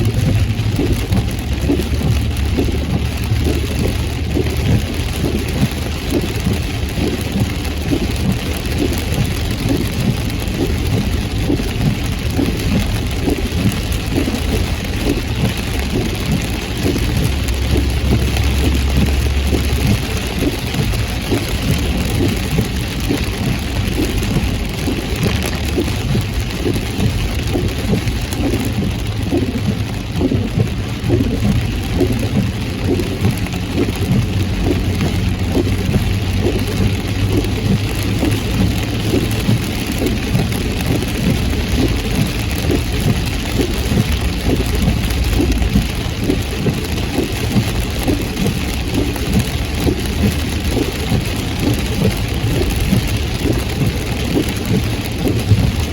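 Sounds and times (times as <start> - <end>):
engine and road noise: 0.0 - 55.9
heavy rain on a car: 0.0 - 55.9.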